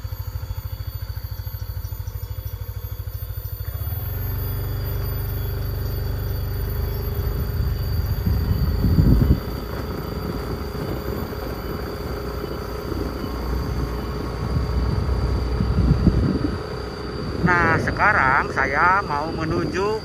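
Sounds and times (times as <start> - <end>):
motorbike engine running: 0.0 - 20.0
wind rumbling on microphone: 3.7 - 20.0.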